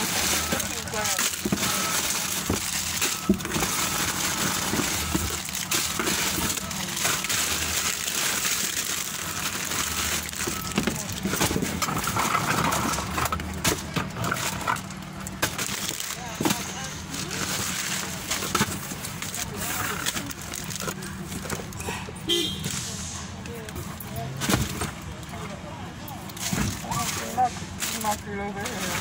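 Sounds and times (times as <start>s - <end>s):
cardboard boxes rustling and crinkling: 0.0s - 21.8s, 23.6s - 25.5s, 26.3s - 29.0s.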